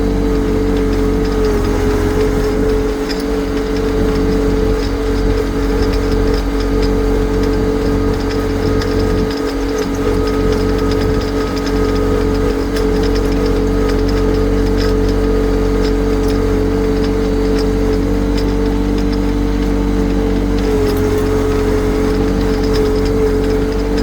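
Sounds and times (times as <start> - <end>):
tractor diesel engine drone: 0.0 - 24.0.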